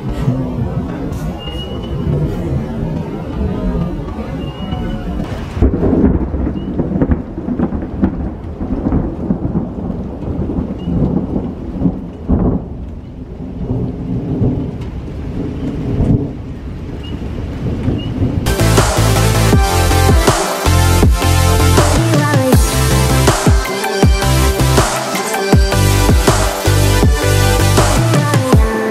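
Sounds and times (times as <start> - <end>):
rain falling: 0.0 - 28.9
thunder clap: 0.0 - 28.9
thunder rumbling: 0.0 - 28.9.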